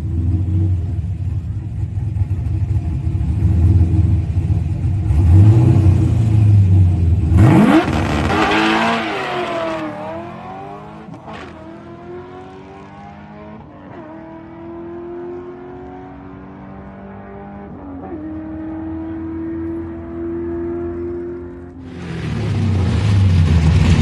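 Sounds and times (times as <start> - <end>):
drag racing car engine: 0.0 - 24.0.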